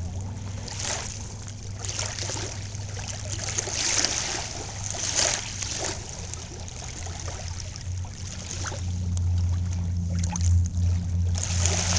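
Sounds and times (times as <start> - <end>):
low steady hum: 0.0 - 11.9
small waves washing on shore: 0.0 - 11.9.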